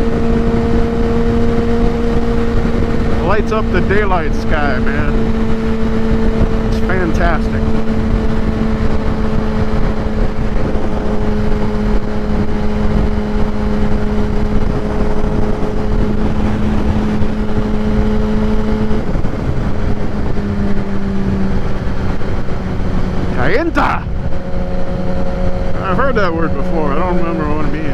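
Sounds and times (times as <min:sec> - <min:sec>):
motorcycle engine cruising: 0:00.0 - 0:27.9
wind rush: 0:00.0 - 0:27.9.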